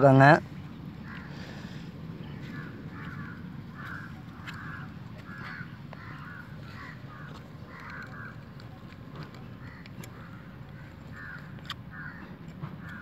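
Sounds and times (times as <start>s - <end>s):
low background rumble: 0.0s - 13.0s
crow cawing: 1.0s - 13.0s.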